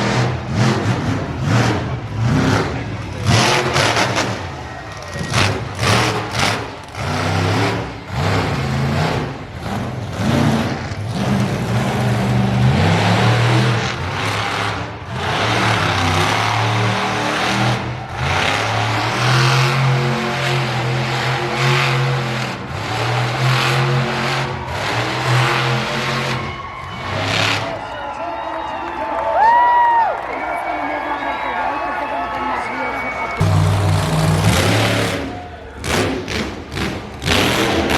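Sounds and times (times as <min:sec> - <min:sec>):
racing engines revving: 0:00.0 - 0:28.2, 0:32.3 - 0:37.9.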